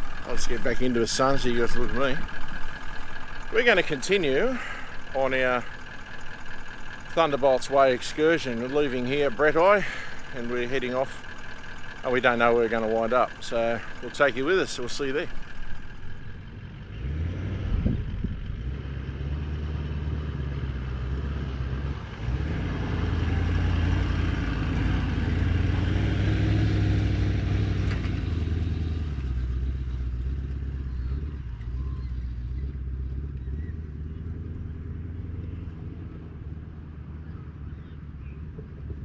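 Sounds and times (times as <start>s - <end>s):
vehicle engine driving past: 0.0s - 39.0s.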